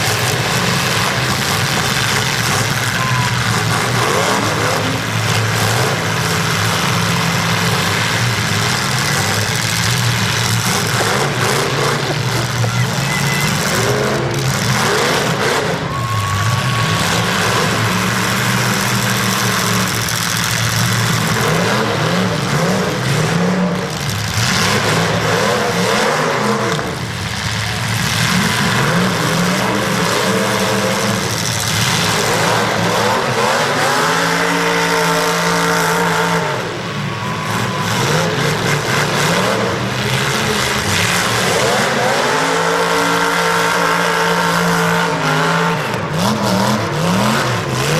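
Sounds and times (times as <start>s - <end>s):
car engines revving hard: 0.0s - 47.9s.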